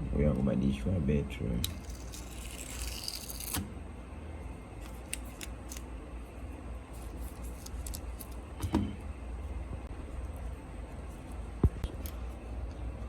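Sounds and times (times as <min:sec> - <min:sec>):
low hum: 0:01.0 - 0:13.0.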